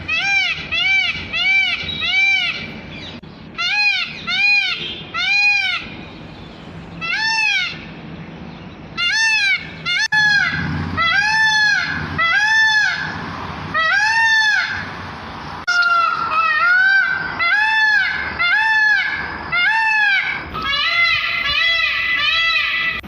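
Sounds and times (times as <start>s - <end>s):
peafowl honking calls: 0.0s - 6.3s, 6.9s - 8.0s, 8.9s - 15.0s, 15.6s - 23.0s.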